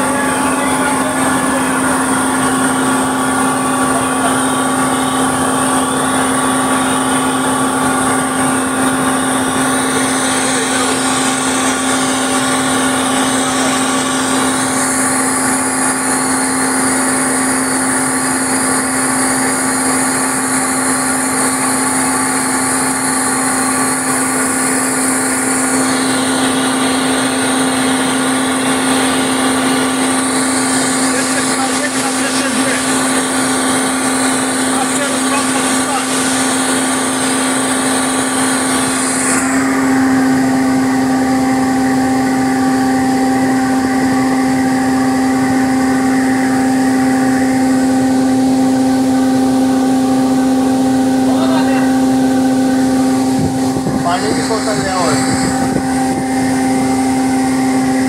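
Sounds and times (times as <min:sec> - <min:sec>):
crane machinery humming: 0:00.0 - 0:58.0.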